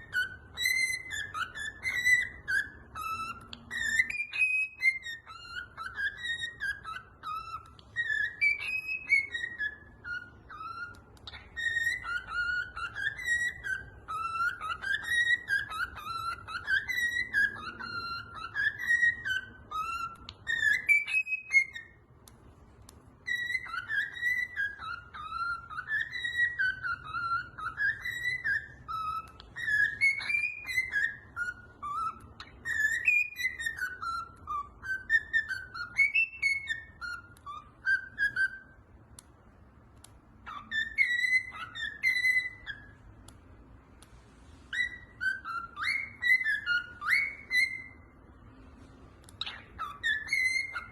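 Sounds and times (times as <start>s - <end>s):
bird whistling warbling notes: 0.0s - 22.1s, 23.1s - 38.8s, 40.4s - 43.1s, 44.6s - 48.6s, 49.3s - 50.9s.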